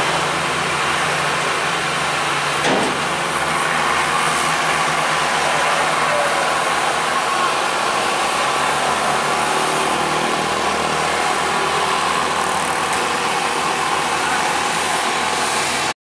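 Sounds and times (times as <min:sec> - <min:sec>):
road and traffic noise: 0:00.0 - 0:16.0.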